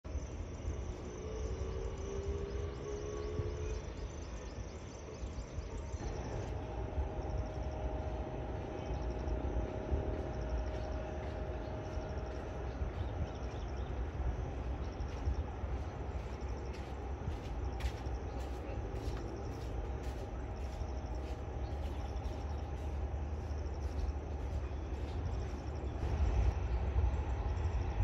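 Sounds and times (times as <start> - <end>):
distant airliner rumble: 0.1 - 28.0
insects chirping: 0.1 - 28.0
mid-pitched whine: 0.1 - 28.0.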